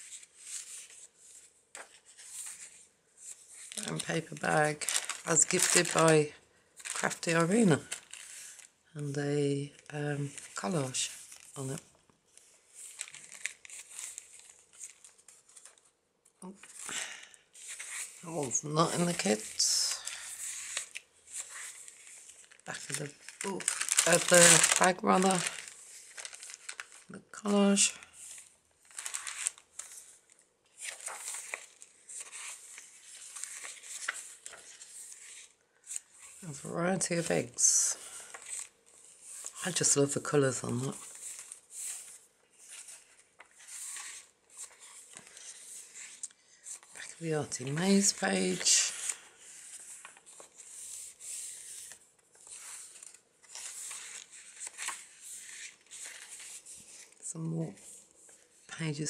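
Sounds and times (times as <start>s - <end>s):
paper rustling and crinkling: 0.0s - 8.8s, 9.6s - 58.8s.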